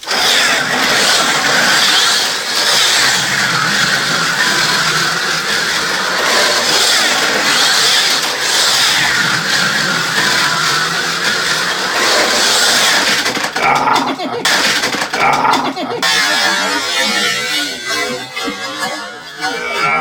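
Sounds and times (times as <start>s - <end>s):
slot car motors whining: 0.0s - 17.4s.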